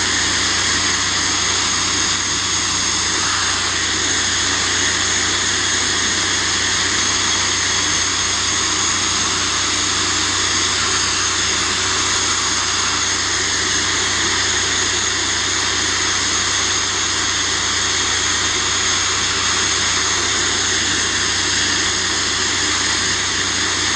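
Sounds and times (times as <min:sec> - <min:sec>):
bead blaster hissing: 0:00.0 - 0:23.9.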